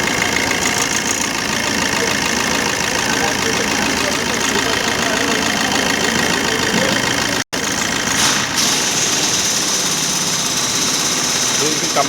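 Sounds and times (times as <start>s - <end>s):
diesel engine idling roughly: 0.0s - 12.0s.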